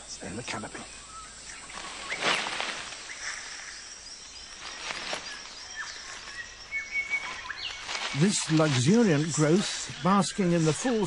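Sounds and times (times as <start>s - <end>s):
insects hissing: 0.0s - 11.0s
leaves rustling: 0.0s - 11.0s.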